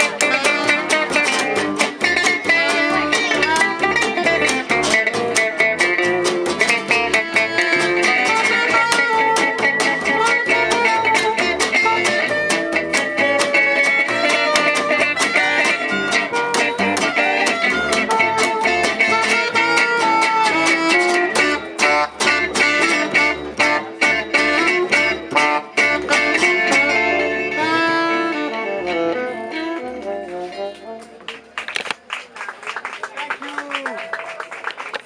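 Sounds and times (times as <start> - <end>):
guitar strumming fast rhythm: 0.0 - 31.0
jazz band playing live: 0.0 - 32.0.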